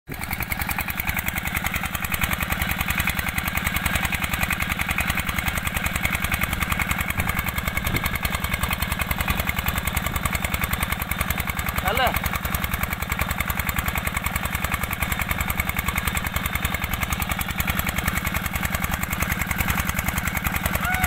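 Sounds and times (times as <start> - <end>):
diesel engine running: 0.1 - 21.0.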